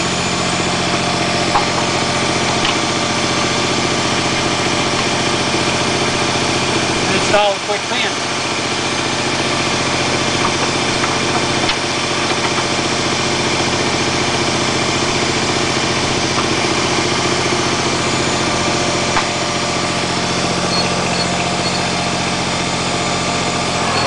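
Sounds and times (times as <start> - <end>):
tractor diesel engine idling: 0.0 - 24.0.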